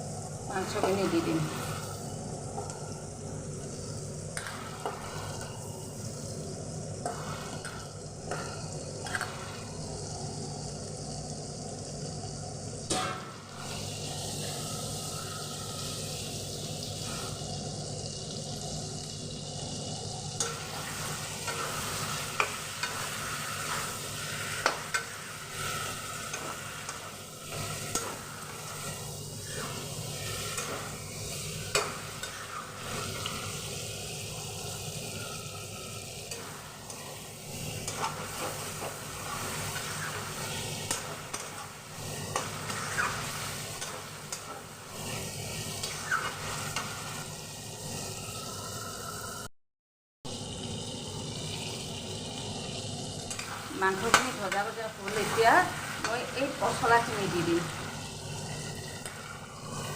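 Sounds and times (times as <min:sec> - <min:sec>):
food sizzling in a pan: 0:00.0 - 0:49.5, 0:50.3 - 0:59.9.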